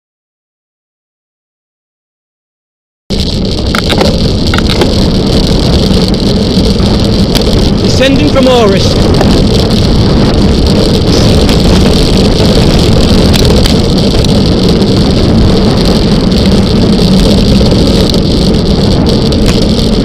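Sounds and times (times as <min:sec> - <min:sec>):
tyre and road rumble: 0:03.1 - 0:20.0
wind rushing over microphone: 0:03.1 - 0:20.0.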